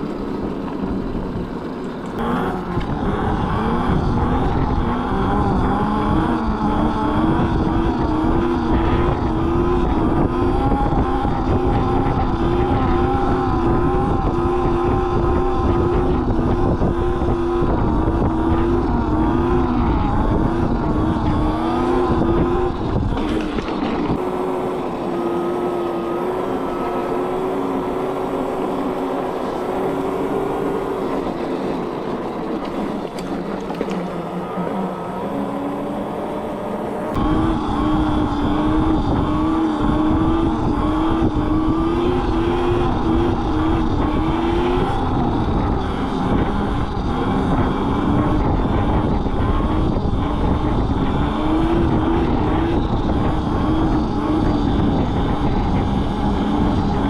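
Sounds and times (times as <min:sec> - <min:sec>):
electric bike motor whining: 0:00.0 - 0:57.0
wind rumble: 0:00.0 - 0:57.0.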